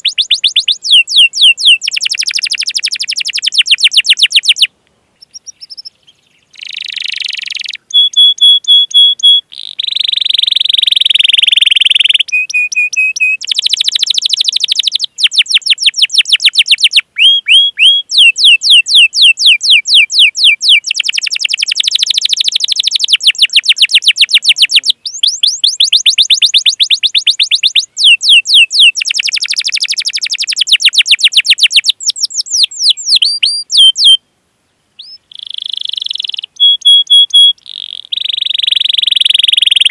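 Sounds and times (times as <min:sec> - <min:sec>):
canary singing: 0:00.0 - 0:34.2, 0:35.0 - 0:39.9.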